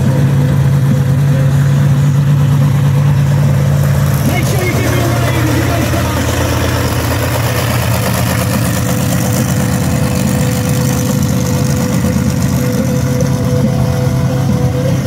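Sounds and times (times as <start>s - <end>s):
steady whining tone: 0.0s - 15.0s
truck engine low drone: 0.0s - 15.0s.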